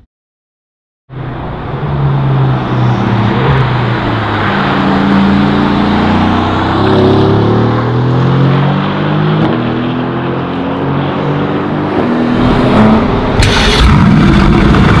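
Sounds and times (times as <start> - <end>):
sports car engine: 1.2 - 15.0.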